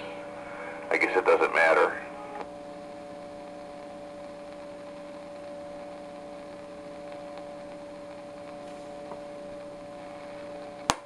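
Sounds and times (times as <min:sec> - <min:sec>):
radio receiver tone hum: 0:00.0 - 0:11.0.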